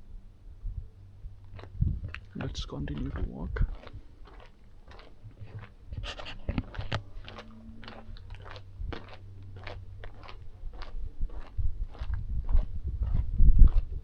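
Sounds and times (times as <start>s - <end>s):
footsteps crunching on path: 1.3s - 14.0s.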